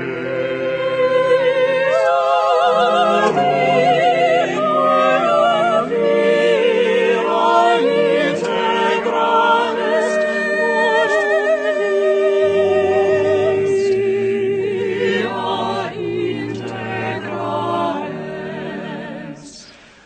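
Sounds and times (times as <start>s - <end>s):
sustained instrumental accompaniment: 0.0s - 19.4s
classical singing with vibrato: 0.0s - 20.0s.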